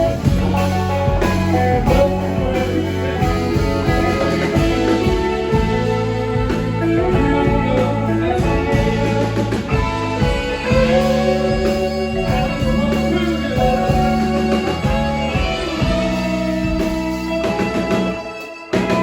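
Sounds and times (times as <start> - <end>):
electric guitar lines: 0.0 - 19.0
rock band playing: 0.0 - 19.0.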